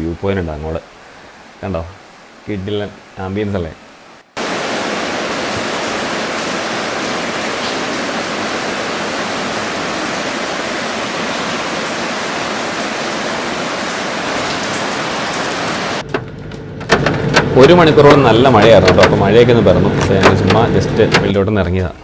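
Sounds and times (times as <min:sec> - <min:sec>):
waterfall rushing: 0:00.0 - 0:16.0, 0:16.9 - 0:21.3
torrential rain: 0:00.0 - 0:21.9.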